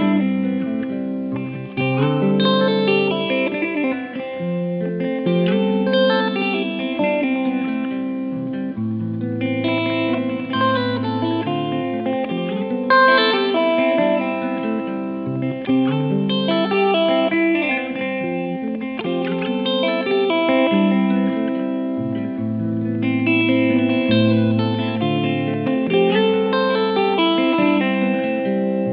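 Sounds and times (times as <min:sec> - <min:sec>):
guitar playing chords: 0:00.0 - 0:28.9.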